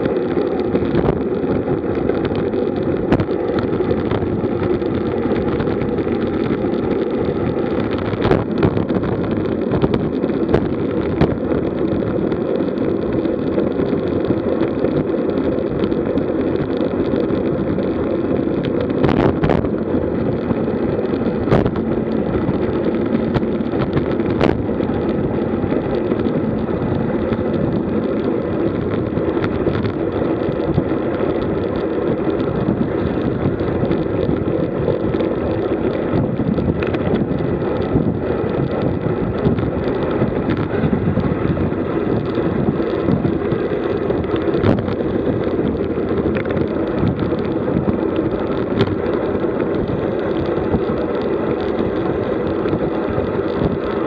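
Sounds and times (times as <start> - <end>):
tyres rolling on asphalt: 0.0 - 54.0
wind rushing over microphone: 0.0 - 54.0.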